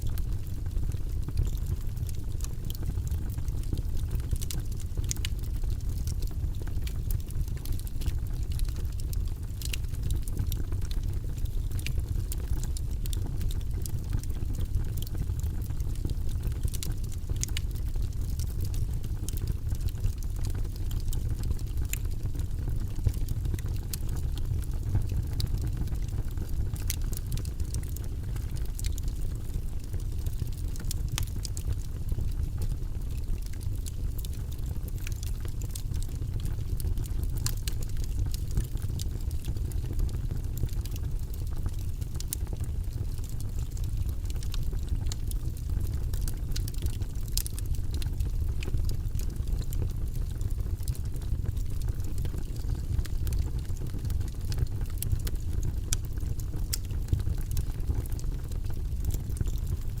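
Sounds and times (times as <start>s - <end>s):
wood logs burning in fireplace: 0.0s - 60.0s.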